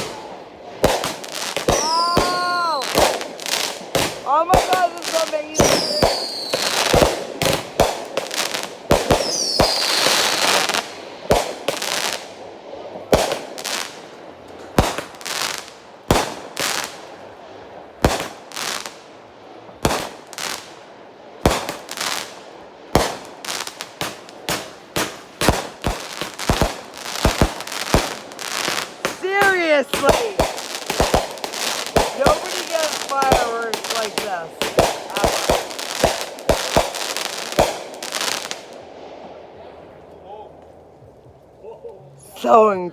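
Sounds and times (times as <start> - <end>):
firework bangs: 0.0 - 39.6
firework crackling: 0.0 - 39.9.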